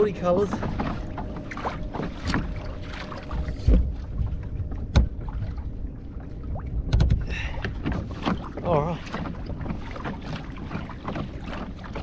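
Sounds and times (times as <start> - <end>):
water slapping kayak hull: 0.0 - 12.0.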